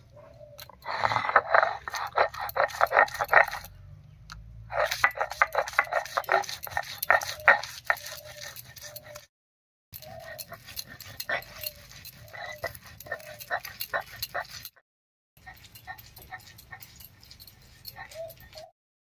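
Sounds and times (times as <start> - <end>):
stone roller grinding on slab: 0.9 - 3.8, 4.7 - 9.3, 10.0 - 14.8, 15.4 - 18.7.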